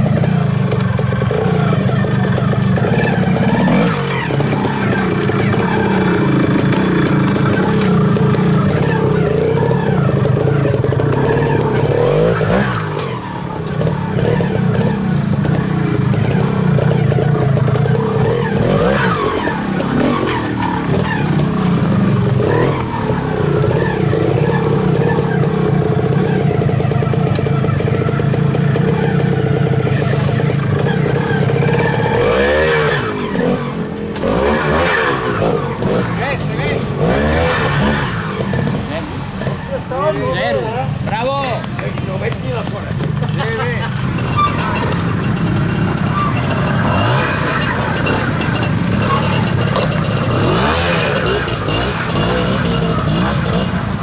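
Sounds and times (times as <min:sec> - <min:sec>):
motorcycle engine with throttle blips: 0:00.0 - 0:54.0.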